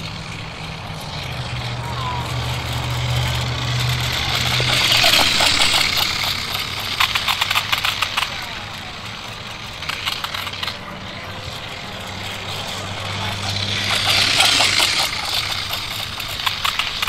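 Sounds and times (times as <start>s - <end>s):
toy bike electric motor: 0.0s - 17.0s.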